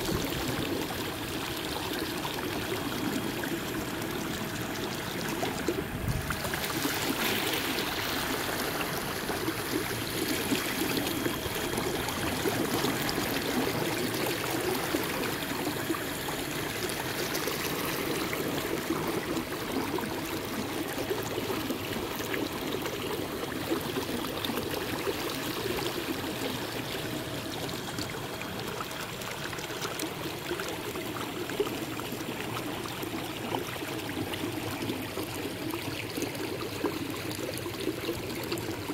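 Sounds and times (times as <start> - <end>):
water rushing along a boat hull: 0.0 - 38.9.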